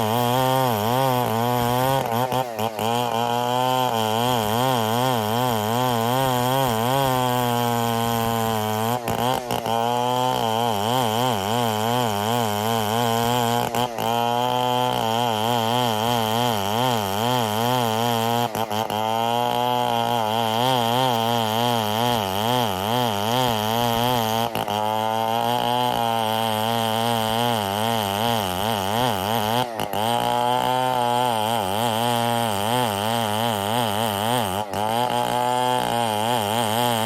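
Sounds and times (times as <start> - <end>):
chainsaw cutting wood: 0.0 - 37.0.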